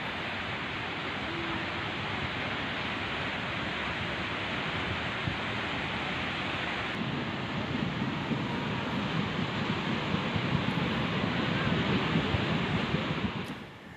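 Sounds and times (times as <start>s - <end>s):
rushing water: 0.0s - 13.7s
wind: 0.0s - 13.9s.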